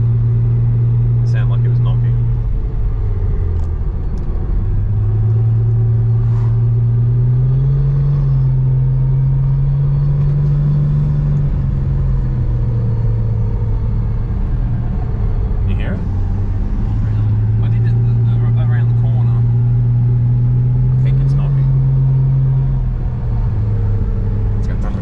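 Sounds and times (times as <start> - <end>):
car engine cruising drone: 0.0 - 25.0.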